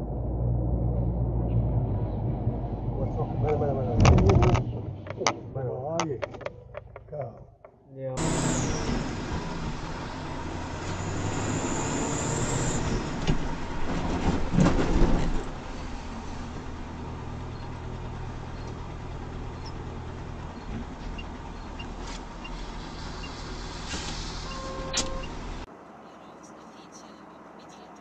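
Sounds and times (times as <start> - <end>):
vehicle engine and tyre noise: 0.0 - 28.0.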